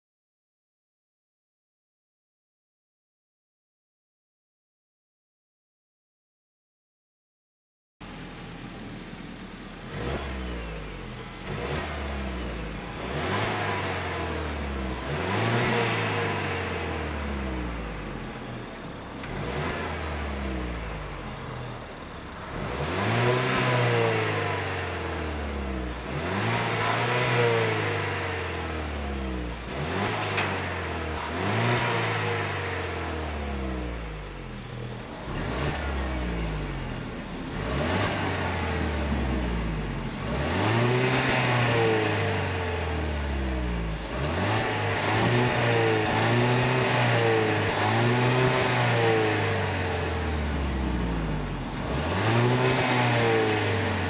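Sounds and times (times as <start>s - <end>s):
car engine revving: 8.0s - 54.0s.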